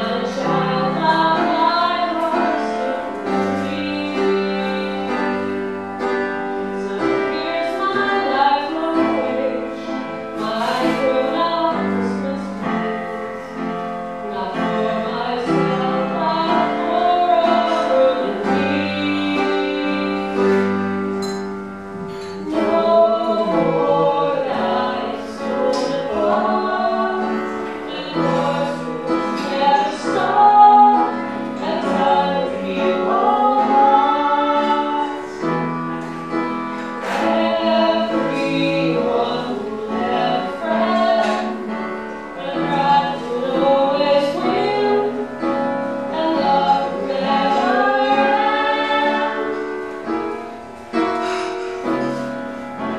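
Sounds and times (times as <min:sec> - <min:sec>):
instrumental accompaniment: 0:00.0 - 0:52.9
woman singing into a microphone: 0:00.0 - 0:52.9.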